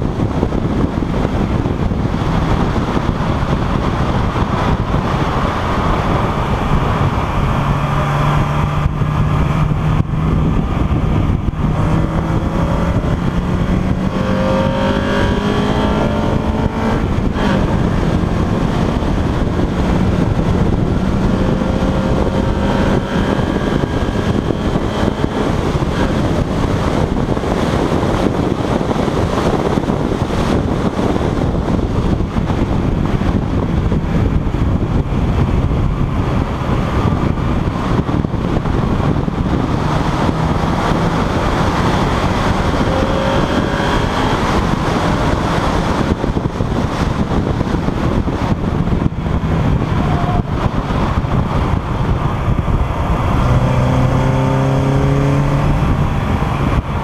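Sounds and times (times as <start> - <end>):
race car engine running hard: 0.0 - 57.0
road and wind noise: 0.0 - 57.0.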